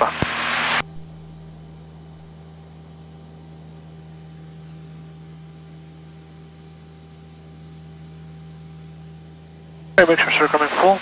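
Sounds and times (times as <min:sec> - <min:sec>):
constant hiss: 0:00.0 - 0:11.0
propeller plane engines droning: 0:00.0 - 0:11.0.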